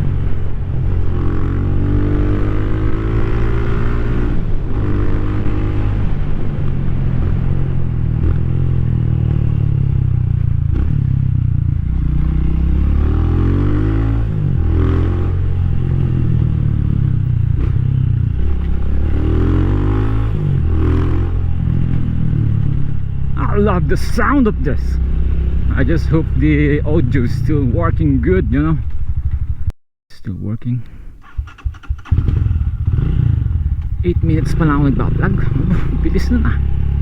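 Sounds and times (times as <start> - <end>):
motorcycle engine revving: 0.0 - 29.7, 31.2 - 37.0.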